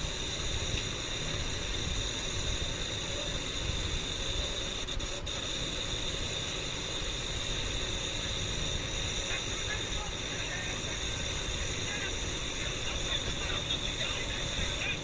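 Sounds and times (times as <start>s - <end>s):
tractor diesel engines rumbling: 0.0s - 15.0s.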